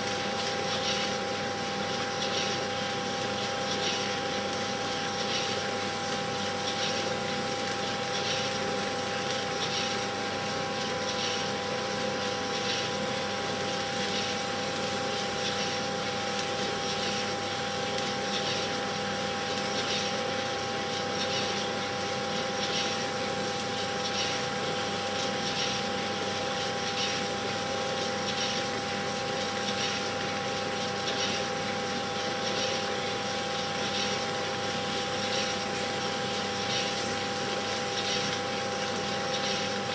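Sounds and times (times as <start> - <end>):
mechanical whirr and hum: 0.0 - 39.9.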